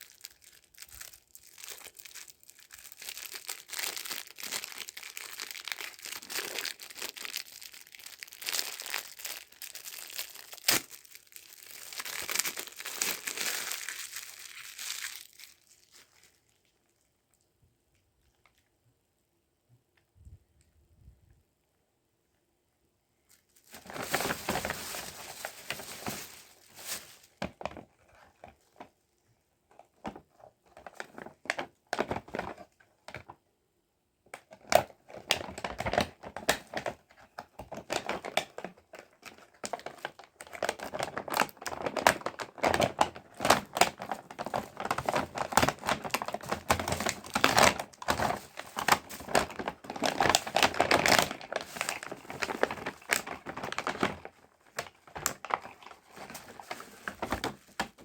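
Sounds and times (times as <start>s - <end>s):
packaging crinkling and tearing: 0.0s - 17.1s, 23.3s - 28.9s, 29.7s - 33.4s, 34.4s - 58.0s.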